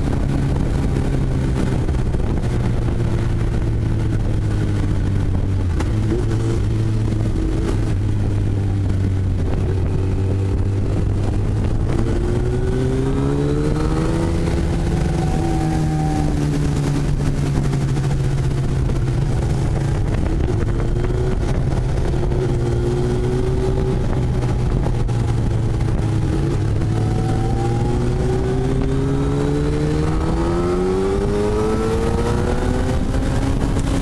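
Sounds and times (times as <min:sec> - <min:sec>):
motorcycle engine running: 0:00.0 - 0:34.0
wind noise: 0:00.0 - 0:34.0.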